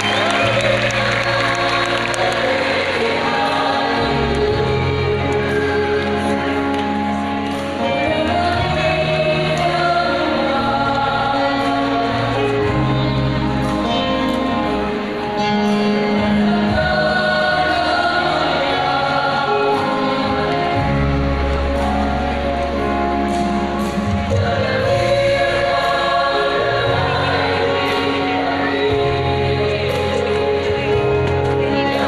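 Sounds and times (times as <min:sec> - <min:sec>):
choir singing through loudspeakers: 0:00.0 - 0:32.0.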